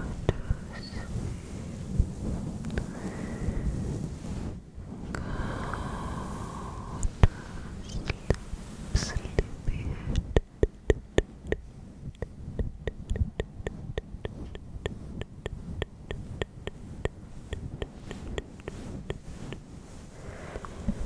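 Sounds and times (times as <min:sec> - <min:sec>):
faint low rumble: 0:00.0 - 0:21.0.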